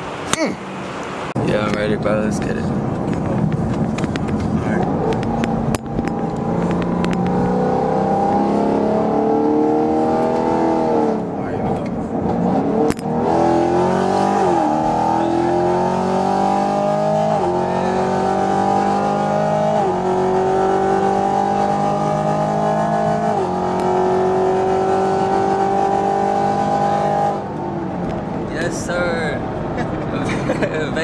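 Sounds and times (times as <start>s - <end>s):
car engine accelerating with upshifts: 0.0s - 31.0s.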